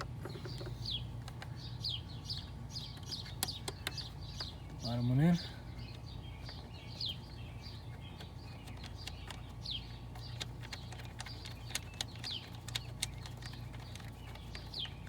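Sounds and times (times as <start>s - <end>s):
songbird calling: 0.0s - 15.0s.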